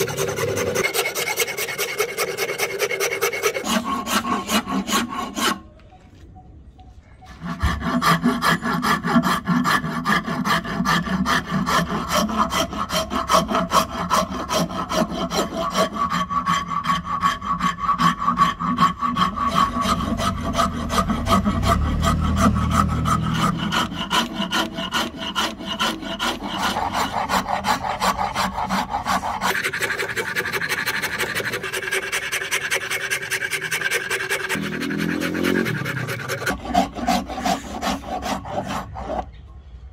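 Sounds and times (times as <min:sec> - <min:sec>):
rasp scraping wood: 0:00.0 - 0:05.7, 0:07.3 - 0:39.4.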